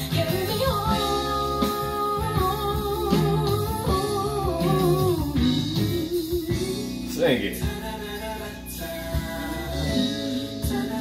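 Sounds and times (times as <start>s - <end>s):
keyboard and guitar: 0.0s - 11.0s
low sliding bass line: 0.0s - 11.0s
woman singing ballad: 0.0s - 11.0s.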